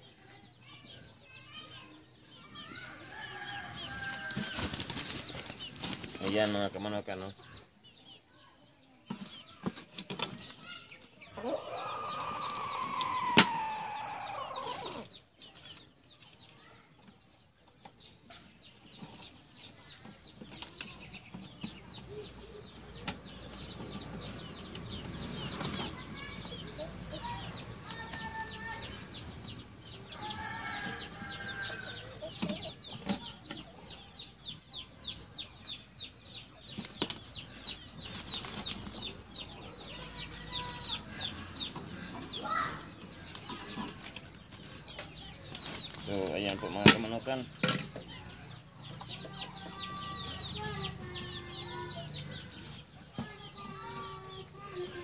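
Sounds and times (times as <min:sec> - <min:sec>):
chickens clucking: 0:09.1 - 0:16.5, 0:17.1 - 0:55.0.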